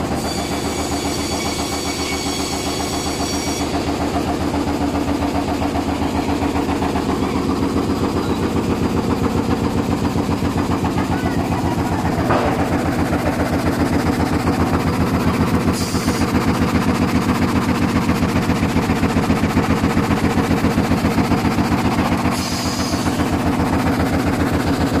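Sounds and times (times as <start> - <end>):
frame saw cutting log: 0.0 - 25.0.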